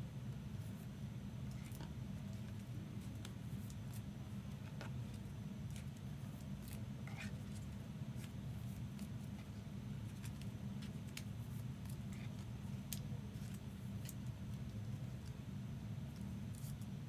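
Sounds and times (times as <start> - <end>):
soft plastic rustles: 1.5 - 15.4.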